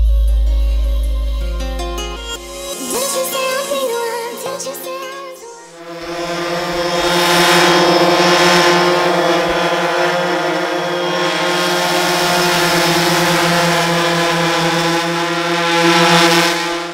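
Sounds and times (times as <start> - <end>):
drone propellers buzzing: 1.5 - 16.9.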